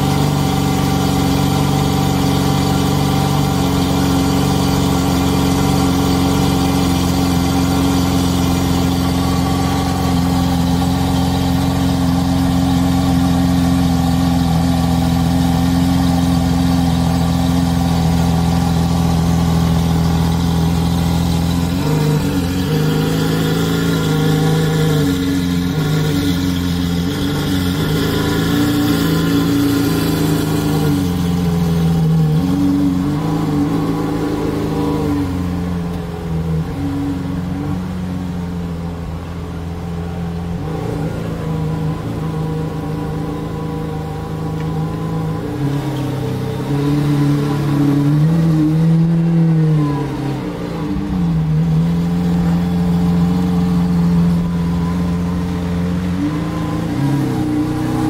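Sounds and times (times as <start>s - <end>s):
car engine at low revs: 0.0s - 58.0s.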